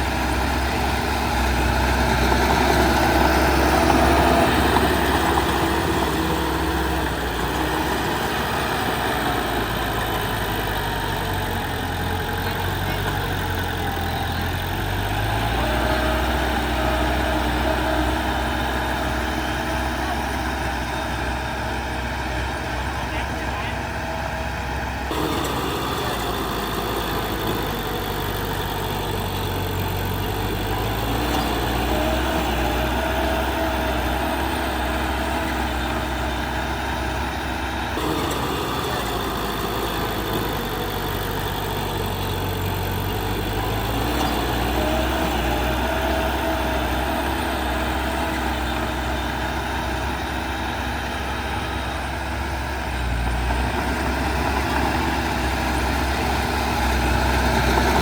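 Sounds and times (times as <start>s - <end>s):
diesel earthmoving machinery running: 0.0s - 58.0s.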